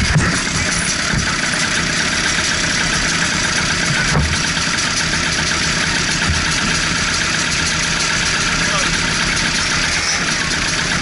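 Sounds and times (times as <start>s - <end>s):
kart engine idling: 0.0s - 11.0s.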